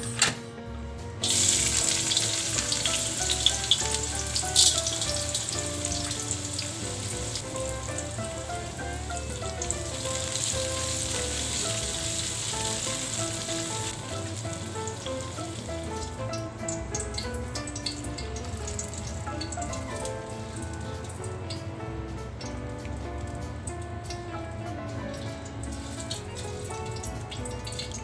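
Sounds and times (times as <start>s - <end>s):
food sizzling in hot oil: 1.2s - 21.8s, 25.1s - 28.0s
oil crackling and popping: 1.2s - 21.8s, 25.1s - 28.0s.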